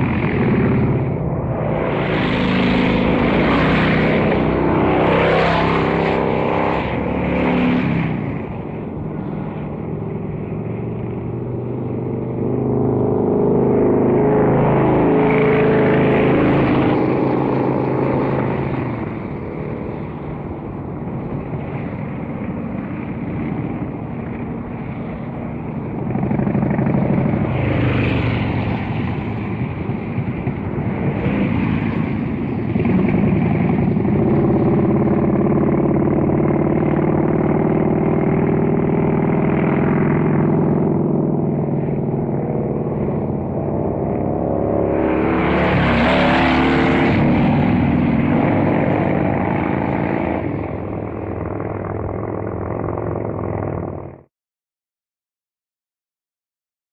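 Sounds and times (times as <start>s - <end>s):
motorcycle engine running: 6.1s - 54.3s.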